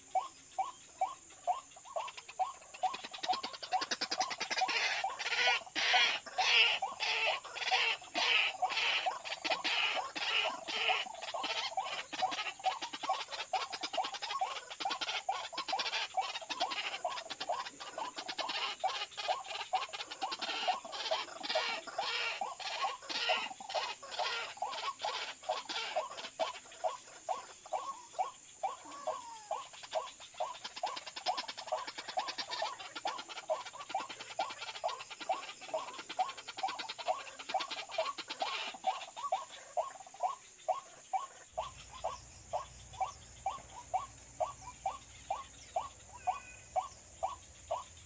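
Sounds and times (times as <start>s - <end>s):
waterhen calls: 0.0s - 48.0s.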